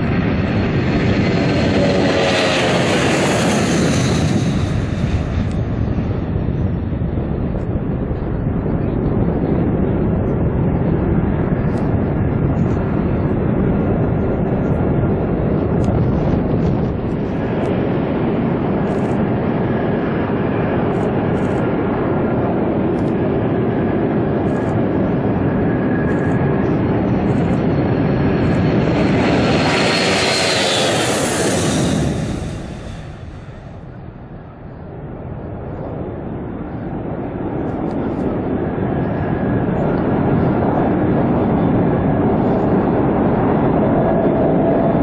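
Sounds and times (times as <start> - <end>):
jet engine roar: 0.0 - 45.0.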